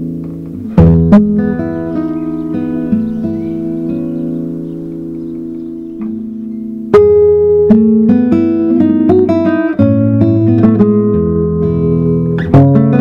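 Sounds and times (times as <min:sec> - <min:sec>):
classical guitar fingerstyle: 0:00.0 - 0:13.0.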